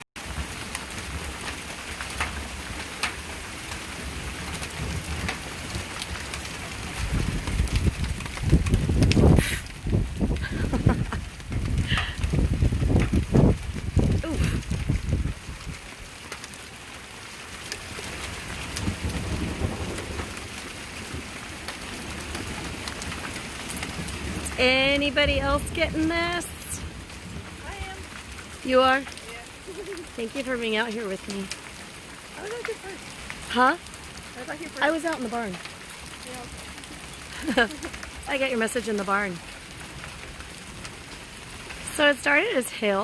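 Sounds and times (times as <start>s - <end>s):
rain pouring: 0.0s - 43.0s
low rumble of thunder: 0.2s - 16.2s, 18.0s - 42.2s
raindrops tapping on surfaces: 0.2s - 43.0s.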